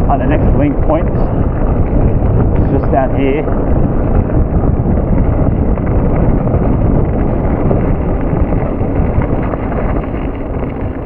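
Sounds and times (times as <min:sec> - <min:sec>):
tyres rolling on gravel: 0:00.0 - 0:11.0
wind buffeting microphone: 0:00.0 - 0:11.0.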